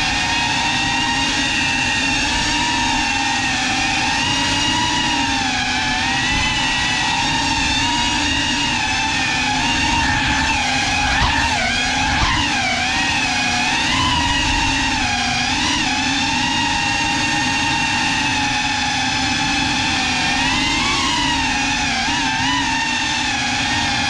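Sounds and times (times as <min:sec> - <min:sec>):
drone motors and propellers whining: 0:00.0 - 0:24.0.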